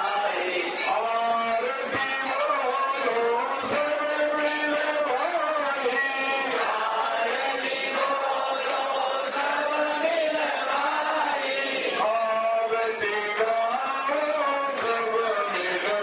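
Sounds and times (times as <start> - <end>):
chanting: 0.0 - 16.0
music: 0.0 - 16.0.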